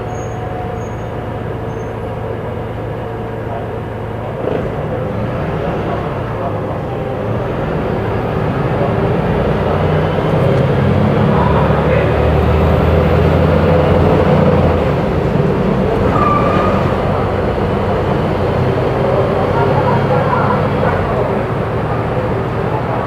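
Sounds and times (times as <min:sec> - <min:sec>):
bus engine running under load: 0:00.0 - 0:23.0.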